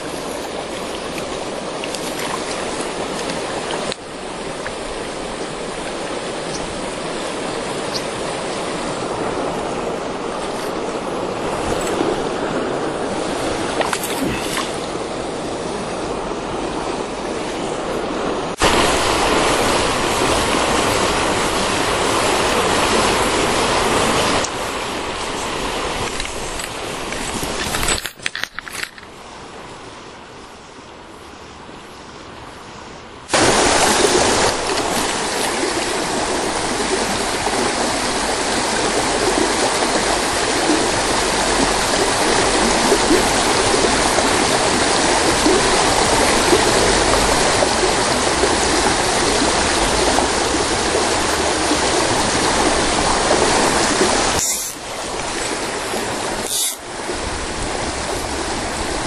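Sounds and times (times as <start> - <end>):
stream rushing over rocks: 0.0 - 30.0, 33.2 - 59.0.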